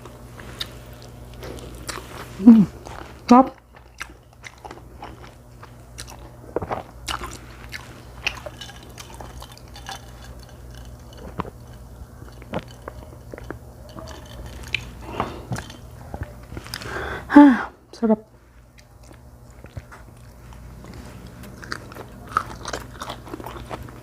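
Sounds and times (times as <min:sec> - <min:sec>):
person chewing and biting food: 0:00.0 - 0:15.9, 0:18.6 - 0:24.0.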